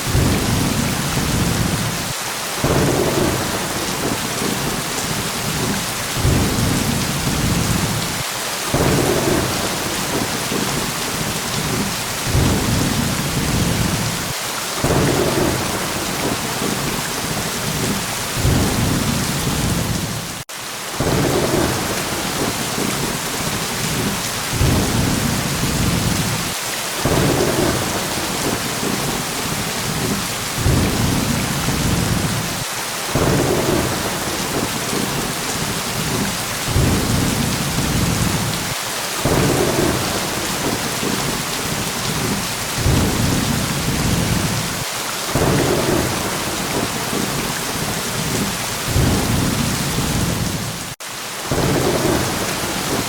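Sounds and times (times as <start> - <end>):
heavy rain: 0.0 - 53.0
low thunder rumbles: 0.1 - 20.4, 21.0 - 53.0.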